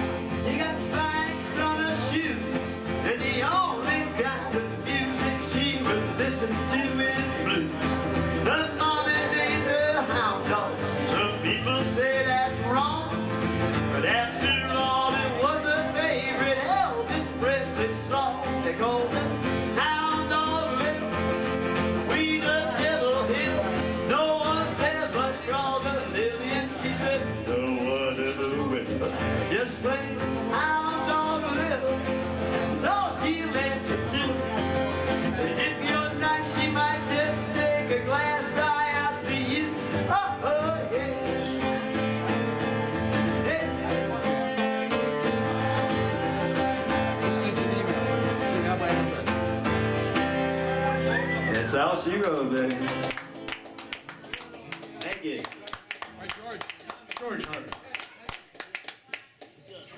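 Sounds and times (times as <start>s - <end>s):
man singing: 0.0s - 49.6s
acoustic guitar playing country blues: 0.0s - 56.9s.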